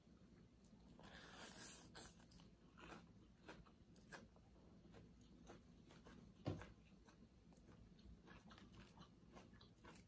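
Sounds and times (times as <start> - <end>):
person chewing: 0.6 - 10.0.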